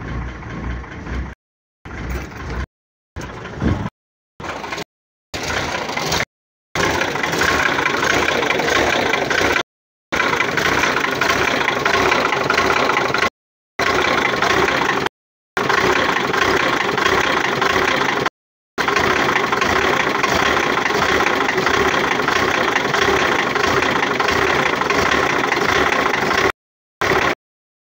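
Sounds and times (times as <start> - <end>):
diesel engine idling roughly: 0.0 - 27.4
engine knock: 0.0 - 27.4.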